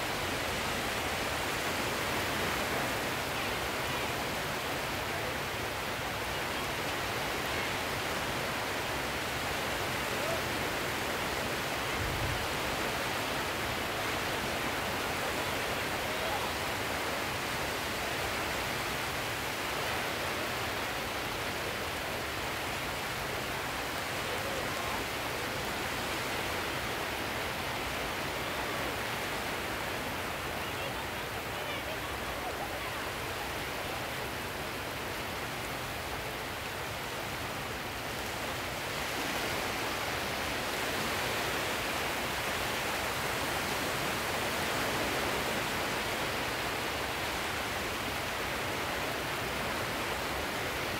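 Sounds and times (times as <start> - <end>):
sea surf rushing: 0.0 - 50.9.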